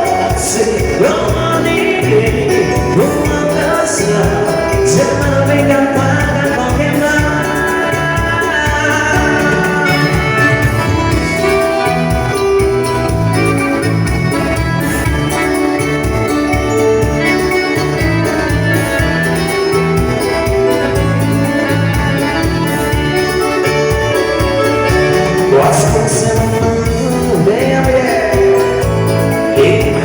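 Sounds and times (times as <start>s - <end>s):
organ-like electronic keyboard: 0.0s - 30.0s
steady bass line: 0.0s - 30.0s.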